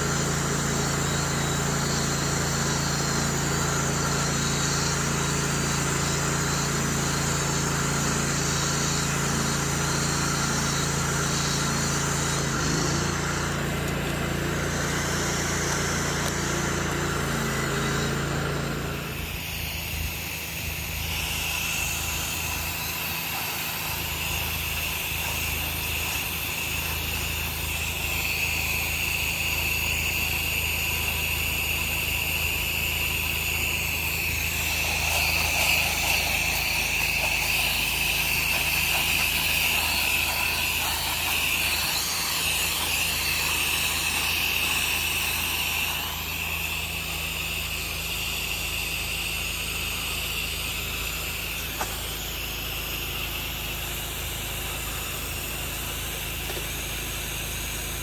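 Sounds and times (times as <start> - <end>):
pressure washer running: 0.0 - 58.0
steady high whine: 0.0 - 58.0.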